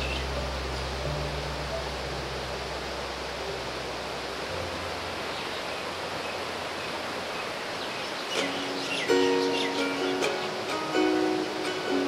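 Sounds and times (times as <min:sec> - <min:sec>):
mountain stream rushing over rocks: 0:00.0 - 0:12.0.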